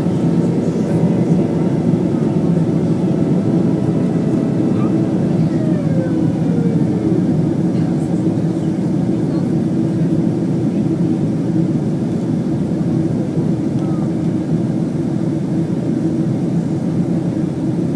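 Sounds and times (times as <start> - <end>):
aircraft cabin engine noise: 0.0 - 17.9.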